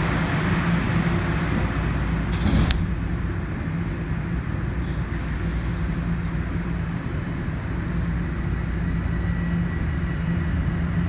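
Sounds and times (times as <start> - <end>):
subway car rumbling on rails: 0.0 - 11.0.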